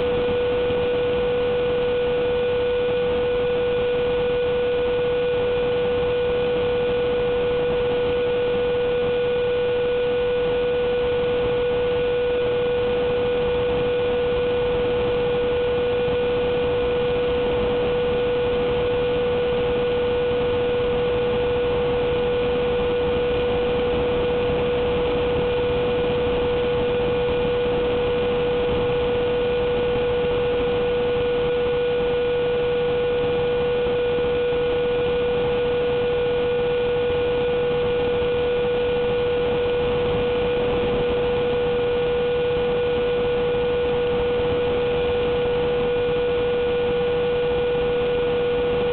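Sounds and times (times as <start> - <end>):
electric fan whine: 0.0 - 48.9.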